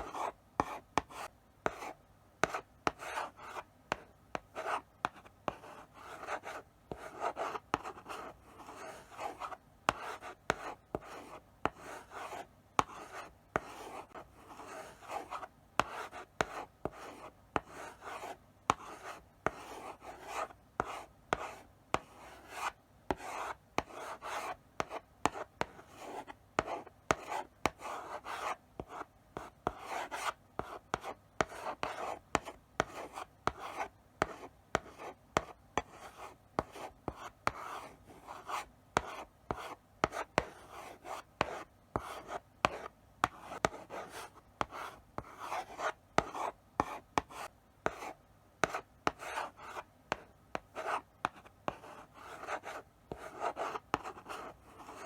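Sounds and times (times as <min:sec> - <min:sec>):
chalk tapping on board: 0:00.0 - 0:13.8, 0:18.7 - 0:37.8, 0:38.4 - 0:55.0
chalk scratching on blackboard: 0:04.6 - 0:55.0.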